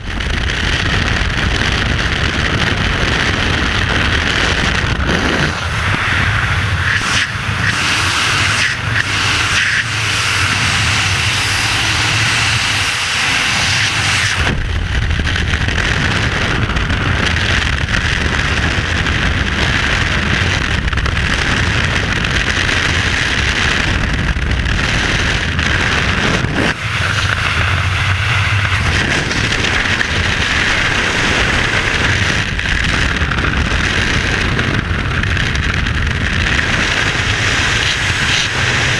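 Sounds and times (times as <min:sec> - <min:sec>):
freefall wind roaring: 0:00.0 - 0:38.9.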